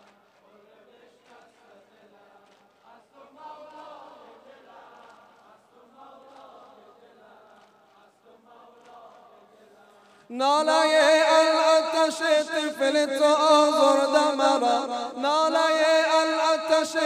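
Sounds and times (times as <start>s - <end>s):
crowd chanting in unison: 0.0s - 17.0s.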